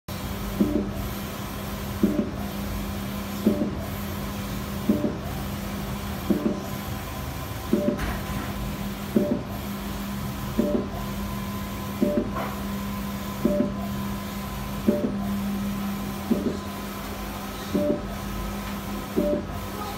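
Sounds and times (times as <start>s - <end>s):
printer humming: 0.1s - 19.9s.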